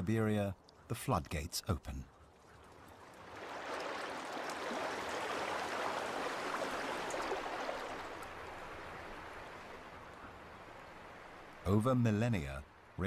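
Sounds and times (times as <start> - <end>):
rushing river water: 2.2 - 13.0.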